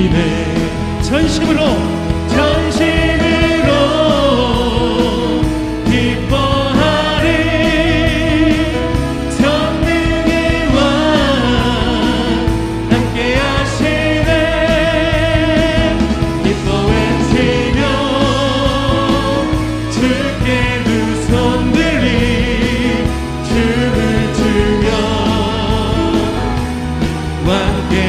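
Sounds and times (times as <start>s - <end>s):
band with keyboard and beat: 0.0s - 28.0s
congregation singing worship song: 0.0s - 28.0s.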